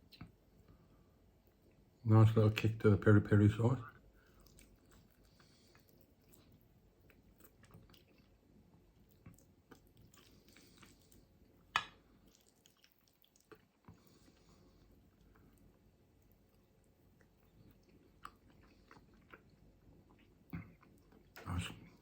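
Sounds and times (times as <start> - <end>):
person chewing: 4.1 - 22.0.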